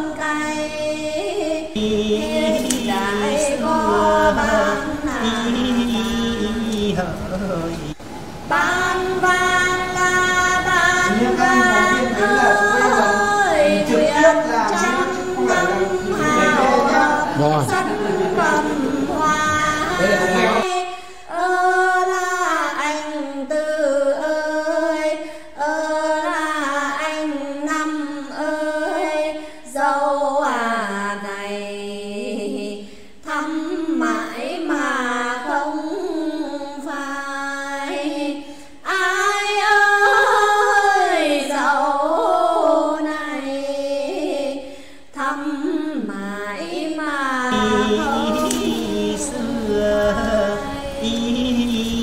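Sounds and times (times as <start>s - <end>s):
two women singing unaccompanied: 0.0s - 52.0s.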